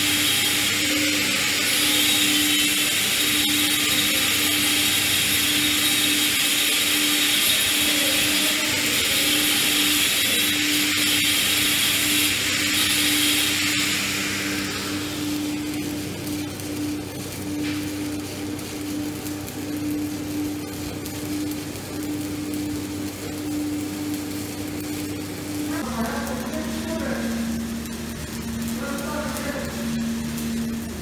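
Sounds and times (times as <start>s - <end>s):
welding arc hissing crackle: 0.0s - 31.0s.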